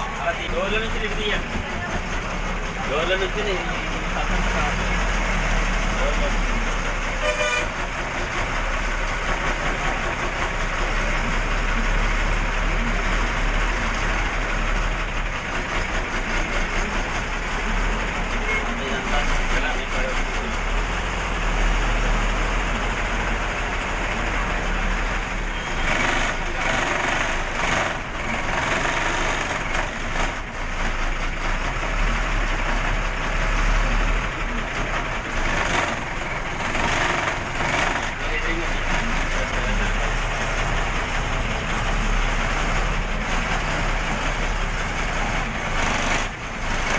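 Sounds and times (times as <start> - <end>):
bus engine running: 0.0 - 46.9
road noise: 0.0 - 46.9.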